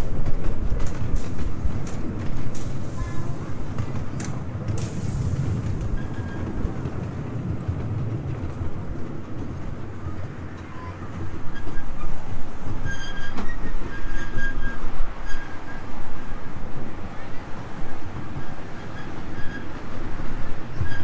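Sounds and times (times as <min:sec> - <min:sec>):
miniature train wheels rumbling: 0:00.0 - 0:21.0
wheels clicking over rail joints: 0:00.0 - 0:21.0.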